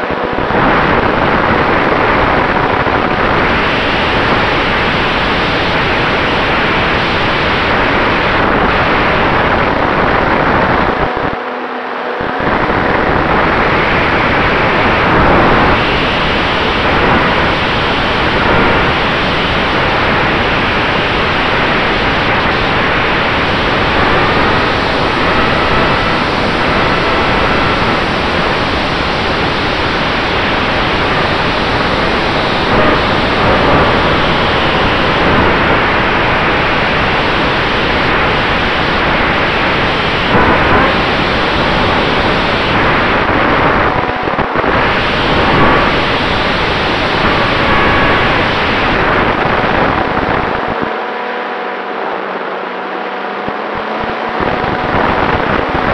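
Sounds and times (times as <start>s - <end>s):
wind rushing over camera: 0.0s - 11.4s, 12.2s - 52.6s, 53.3s - 55.9s.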